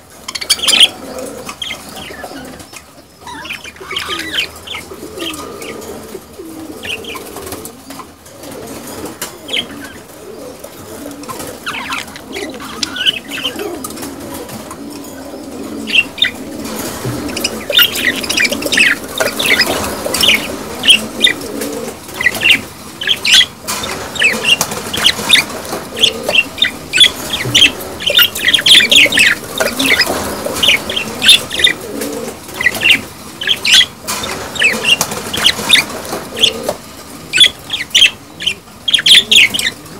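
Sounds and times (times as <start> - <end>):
budgerigars chattering and warbling: 0.2 - 6.1, 6.8 - 7.6, 9.1 - 10.1, 11.2 - 39.9.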